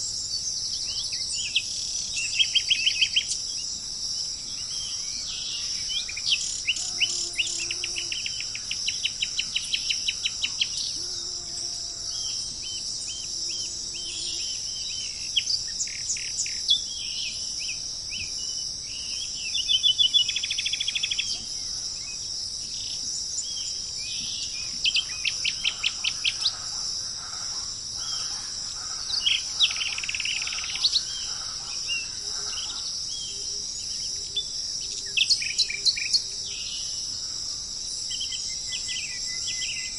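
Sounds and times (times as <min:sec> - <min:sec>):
small birds chirping: 0:00.0 - 0:11.3, 0:12.1 - 0:37.0
insects hissing: 0:00.0 - 0:39.9.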